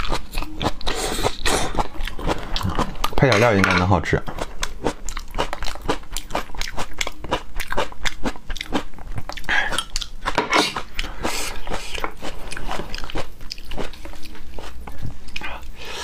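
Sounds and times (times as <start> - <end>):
crunchy chewing: 0.0 - 3.2, 4.3 - 15.8.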